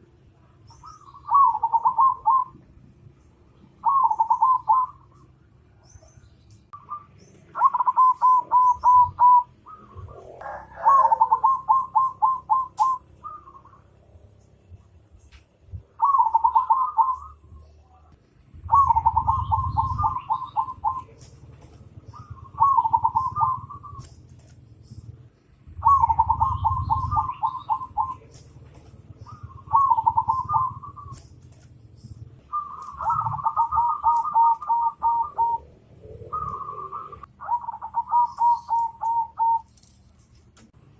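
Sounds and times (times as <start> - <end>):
bird calling: 0.0 - 40.8
faint low rumble: 0.0 - 40.9.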